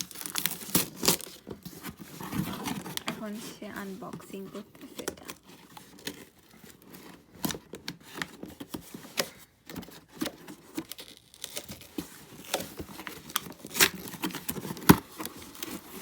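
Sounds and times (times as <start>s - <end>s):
cardboard parcel being opened: 0.0s - 16.0s.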